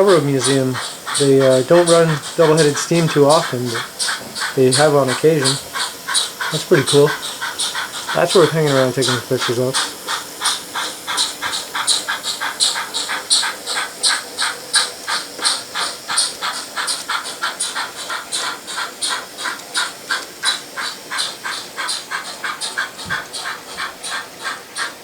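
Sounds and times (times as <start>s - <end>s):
model steam locomotive chuffing: 0.0s - 25.0s.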